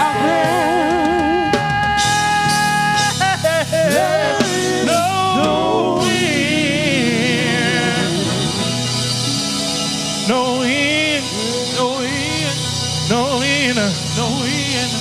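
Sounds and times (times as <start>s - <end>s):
lead singer singing gospel: 0.0s - 15.0s
steady bass accompaniment: 0.0s - 15.0s.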